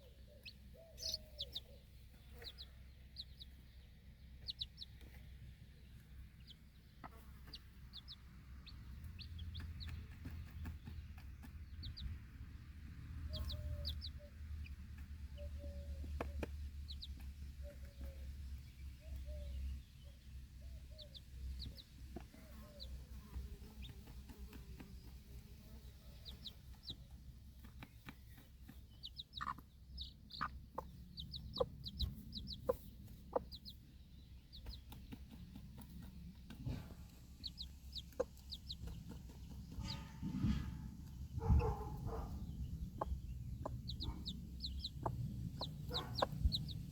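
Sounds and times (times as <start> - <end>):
hen clucking: 0.0 - 5.3, 5.9 - 12.2, 13.2 - 18.2, 20.8 - 46.9
chicks peeping: 0.0 - 46.9.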